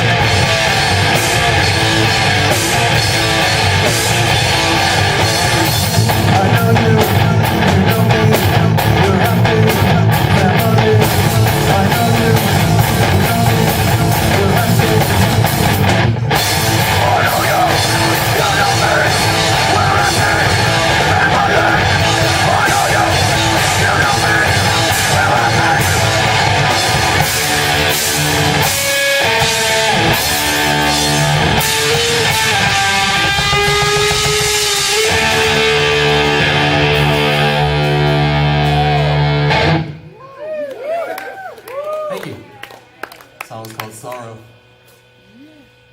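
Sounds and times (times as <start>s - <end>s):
drum kit: 0.0s - 40.0s
distorted electric guitar: 0.0s - 40.1s
rock band playing live: 0.0s - 40.1s.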